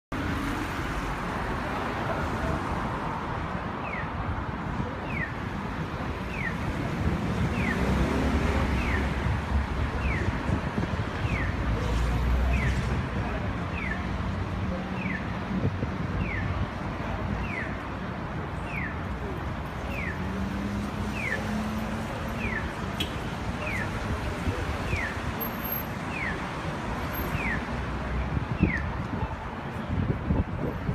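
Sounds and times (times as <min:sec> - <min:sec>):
city street traffic: 0:00.1 - 0:30.9.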